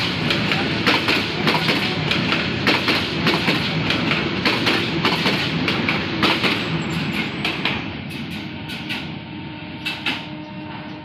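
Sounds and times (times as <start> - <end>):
train wheels clattering on rails: 0.0 - 9.2, 9.8 - 11.0.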